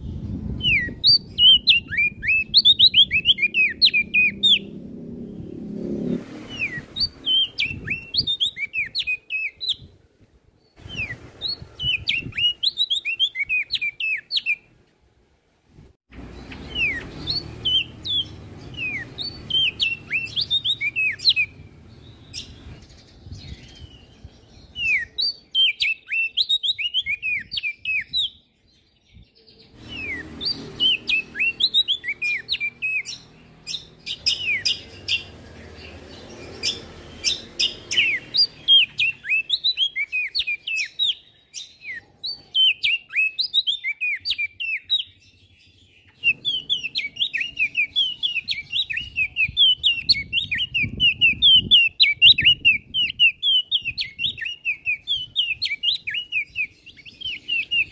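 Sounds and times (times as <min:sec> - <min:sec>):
songbird twittering: 0:00.0 - 0:10.0, 0:10.6 - 0:14.7, 0:16.1 - 0:57.9.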